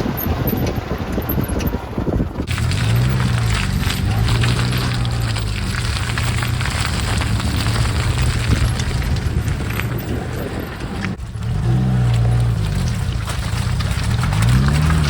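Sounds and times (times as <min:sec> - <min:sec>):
vehicle engine under load: 0:00.0 - 0:15.0
vehicle knocks and rattles: 0:00.0 - 0:15.0.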